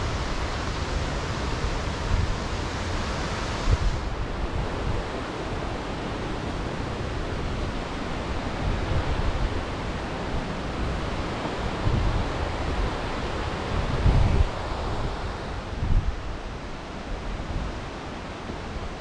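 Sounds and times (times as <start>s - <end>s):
waterfall rushing: 0.0s - 15.8s
wind buffeting microphone: 0.0s - 19.0s.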